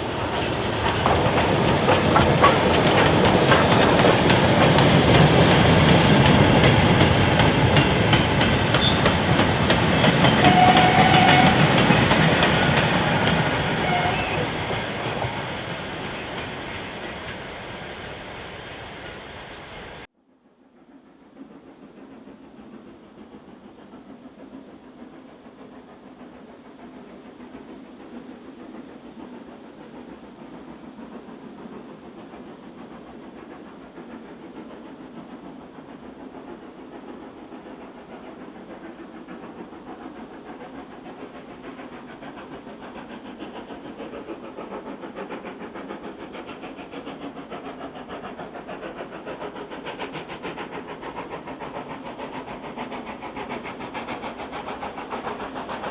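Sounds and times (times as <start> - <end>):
steam locomotive exhaust: 0.0 - 55.9.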